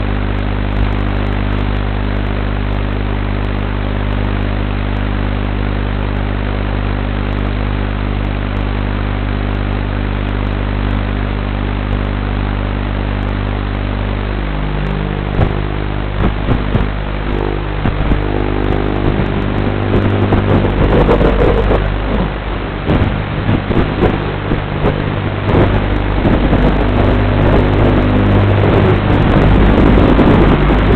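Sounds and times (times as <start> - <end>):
quadcopter motors humming: 0.0 - 30.9.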